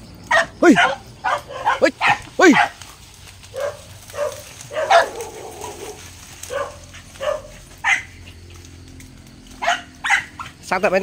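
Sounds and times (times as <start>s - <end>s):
dogs barking: 0.2s - 10.8s.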